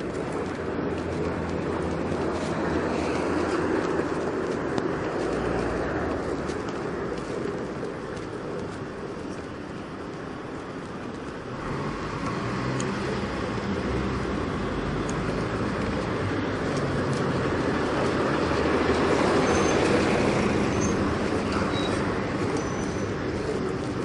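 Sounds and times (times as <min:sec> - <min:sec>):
passing vehicle engines: 0:00.0 - 0:24.0.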